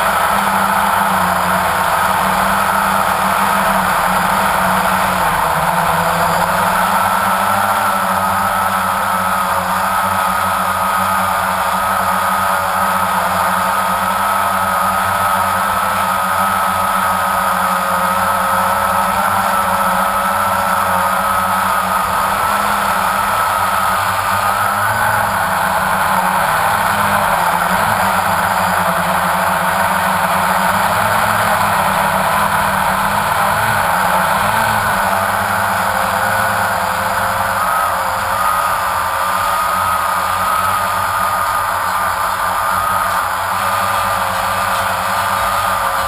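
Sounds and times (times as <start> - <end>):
drone propellers whining: 0.0 - 46.0.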